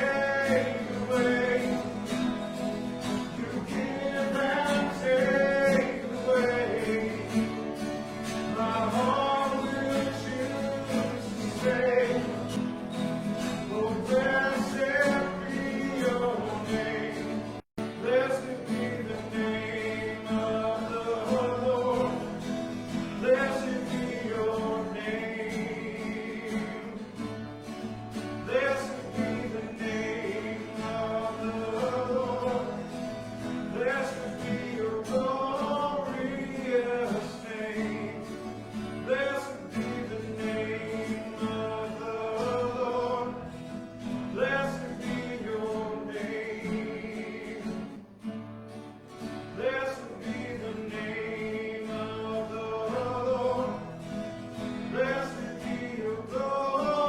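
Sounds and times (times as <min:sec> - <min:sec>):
group singing worship song: 0:00.0 - 0:27.5, 0:28.2 - 0:48.0, 0:49.5 - 0:57.0
guitar accompaniment: 0:00.0 - 0:57.0.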